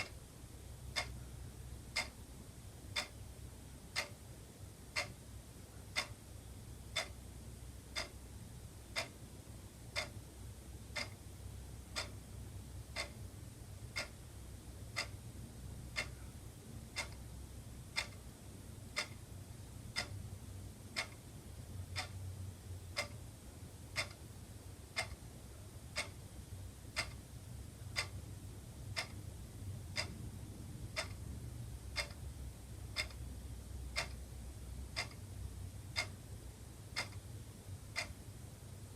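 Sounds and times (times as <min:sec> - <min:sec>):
faint low hum: 0:00.0 - 0:38.9
wall clock ticking: 0:00.0 - 0:38.9.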